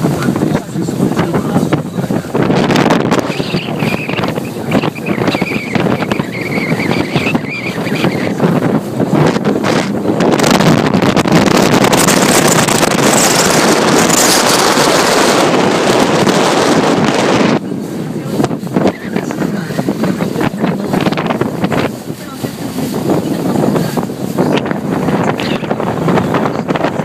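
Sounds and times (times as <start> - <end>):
outboard motor running: 0.0 - 27.0
rushing water: 0.0 - 27.0
wind buffeting microphone: 0.0 - 27.0.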